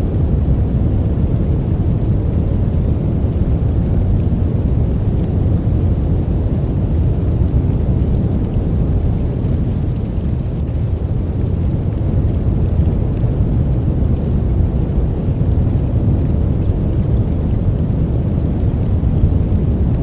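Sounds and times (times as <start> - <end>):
deep white noise hiss: 0.0 - 20.0.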